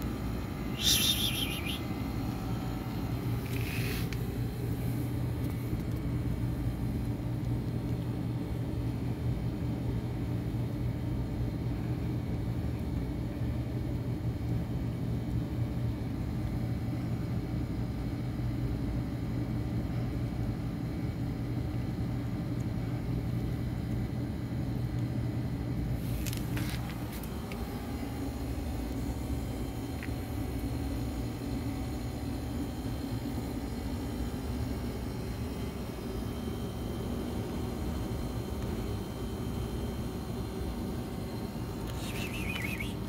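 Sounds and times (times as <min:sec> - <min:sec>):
low machine hum with rumble: 0:00.0 - 0:43.0.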